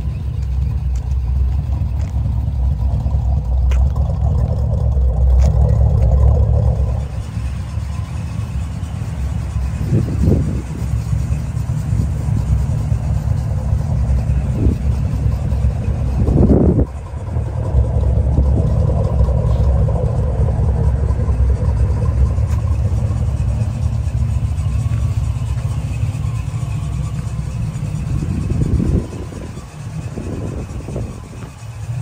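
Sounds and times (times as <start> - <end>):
car engine rumbling: 0.0 - 32.0.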